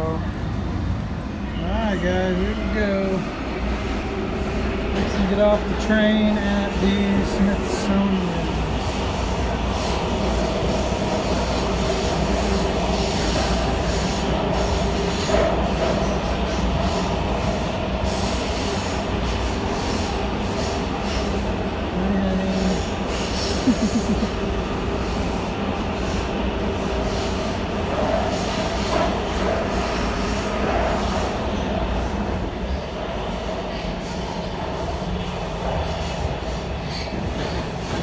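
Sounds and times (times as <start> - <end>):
subway car rumbling on track: 0.0 - 38.0.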